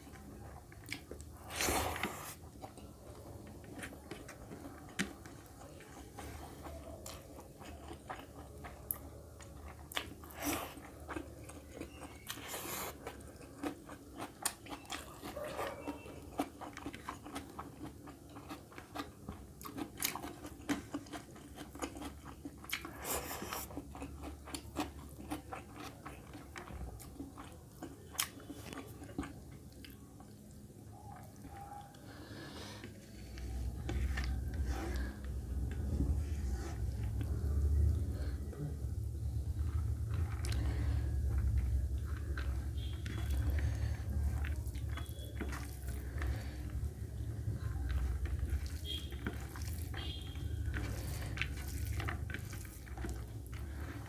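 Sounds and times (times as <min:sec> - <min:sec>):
close-up chewing food: 0:00.0 - 0:54.0.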